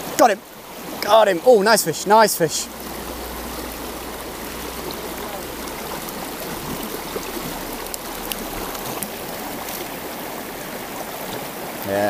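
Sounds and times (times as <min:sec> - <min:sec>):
river water over stones: 0:00.0 - 0:12.0.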